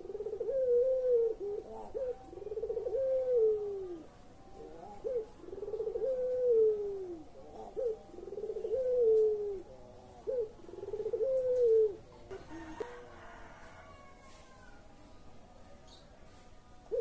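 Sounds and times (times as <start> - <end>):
dove cooing: 0.0 - 14.6.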